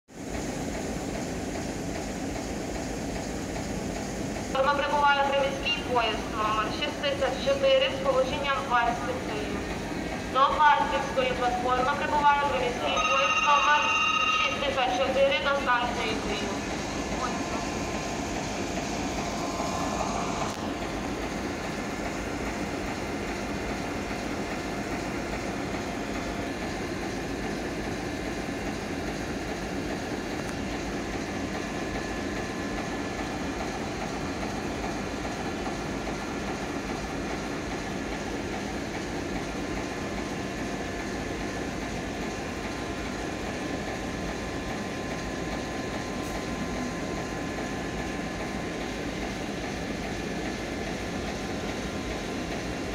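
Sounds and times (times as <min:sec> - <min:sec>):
electric train rumbling: 0:00.1 - 0:52.9.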